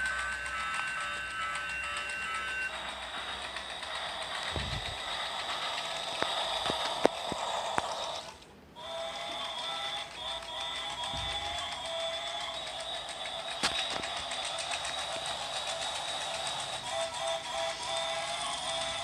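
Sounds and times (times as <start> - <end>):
toy train motor whirring: 0.0 - 19.0.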